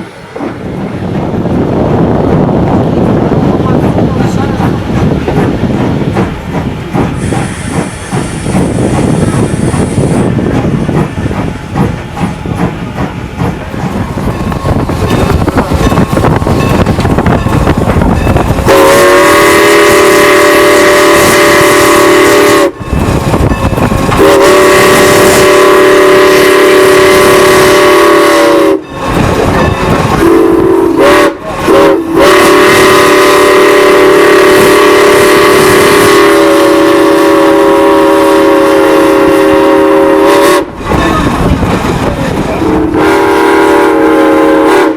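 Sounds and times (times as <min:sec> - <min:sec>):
steam locomotive rumbling: 0:00.0 - 0:44.9.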